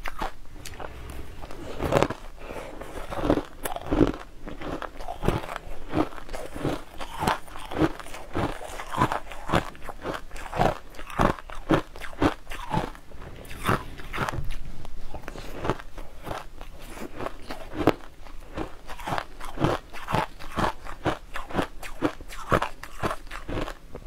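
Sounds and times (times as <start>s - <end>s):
crushed ice being chewed: 0.0s - 24.0s.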